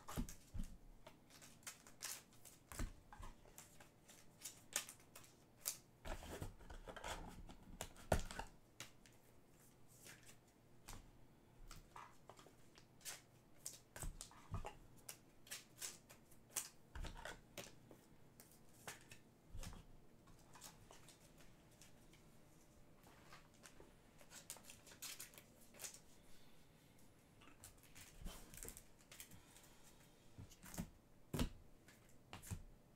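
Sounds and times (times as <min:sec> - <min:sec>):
cards and packaging handled: 0:00.1 - 0:09.2, 0:09.9 - 0:11.0, 0:11.7 - 0:22.2, 0:23.0 - 0:26.2, 0:27.4 - 0:32.7.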